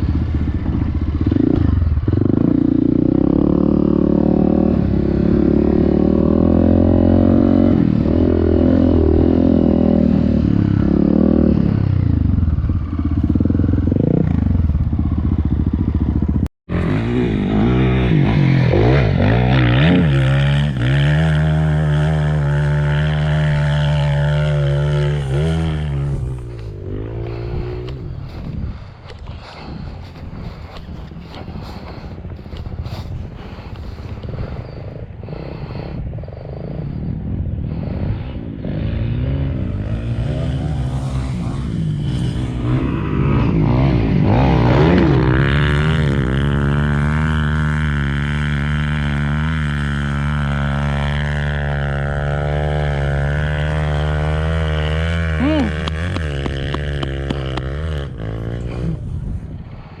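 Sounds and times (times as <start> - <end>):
motorcycle engine accelerating: 0.0 - 60.0.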